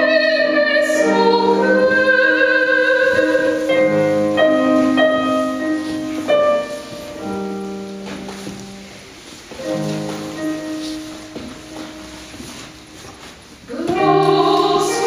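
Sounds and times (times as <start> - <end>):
keyboard piano chords echoing: 0.0 - 15.0.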